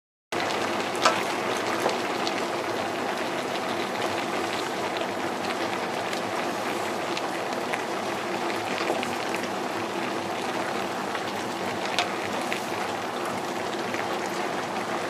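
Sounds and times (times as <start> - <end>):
food sizzling in a pot: 0.4 - 15.0.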